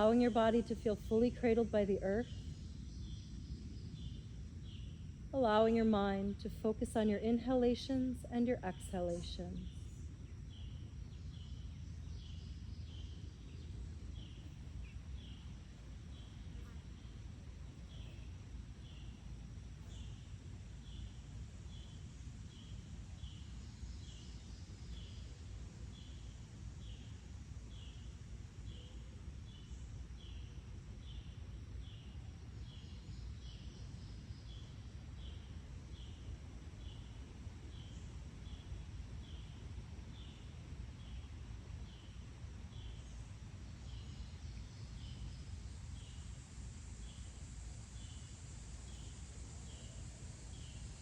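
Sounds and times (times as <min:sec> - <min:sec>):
low rumble of outdoor air: 0:00.0 - 0:51.0.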